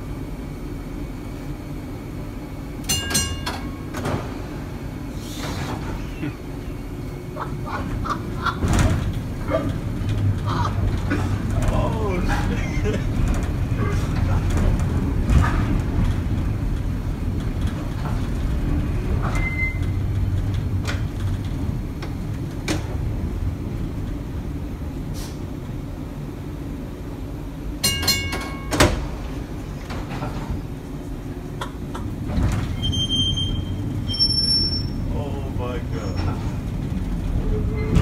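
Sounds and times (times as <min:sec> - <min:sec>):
streetcar wheels rumbling: 0:00.0 - 0:38.0.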